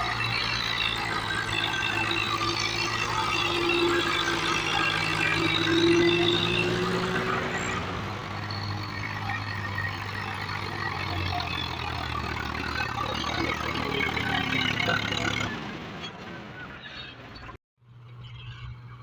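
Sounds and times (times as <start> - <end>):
rising engine whine: 0.0 - 15.9
tractor diesel engine running: 0.0 - 17.2.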